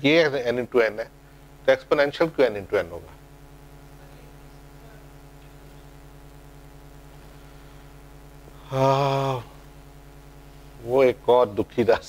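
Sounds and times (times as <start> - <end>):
background hiss: 0.0 - 12.0
low electrical hum: 0.0 - 12.0.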